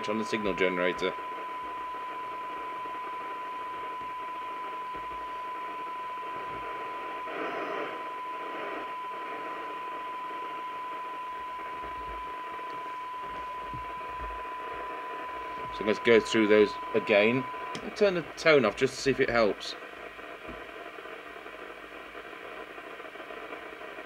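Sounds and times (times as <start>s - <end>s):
steady test tone: 0.0s - 22.7s
radio hiss: 0.0s - 24.0s.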